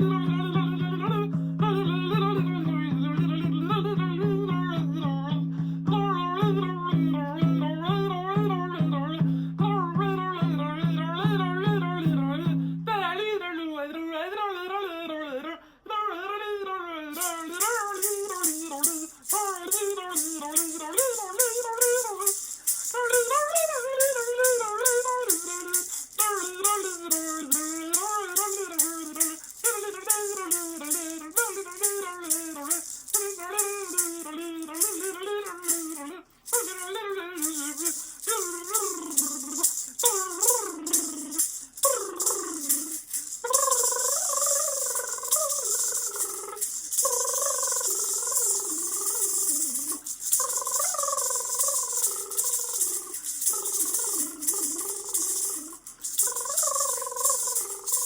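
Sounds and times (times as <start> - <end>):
hand shaker rattling: 0.0 - 12.6, 17.2 - 58.0
woman singing wordlessly: 0.0 - 58.0.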